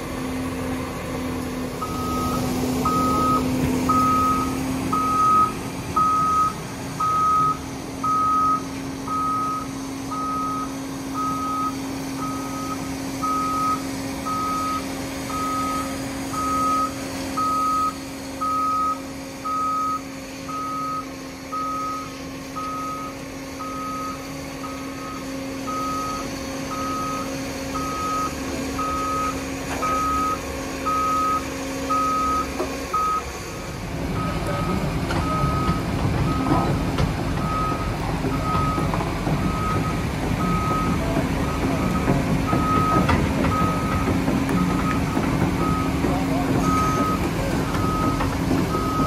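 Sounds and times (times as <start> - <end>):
engine hum: 0.0 - 49.0
rough machinery rumble: 0.0 - 49.0
travel alarm beeping: 1.8 - 33.3, 34.2 - 36.6, 37.4 - 49.0.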